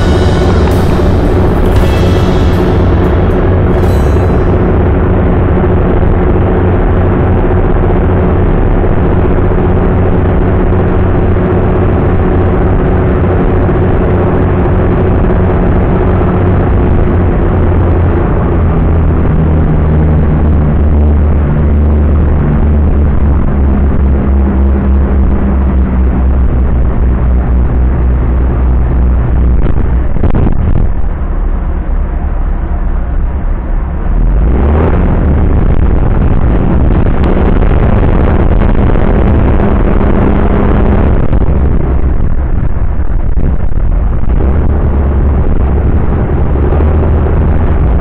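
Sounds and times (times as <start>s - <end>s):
ferry engine humming: 0.0s - 48.0s.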